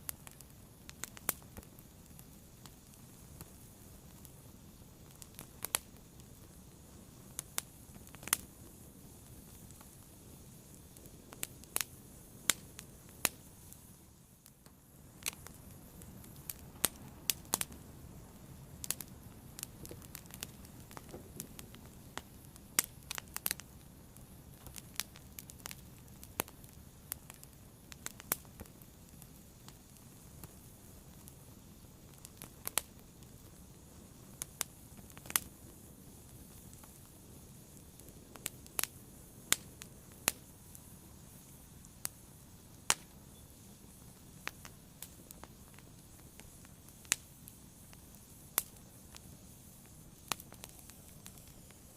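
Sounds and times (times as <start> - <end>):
fire crackling: 0.0 - 51.9.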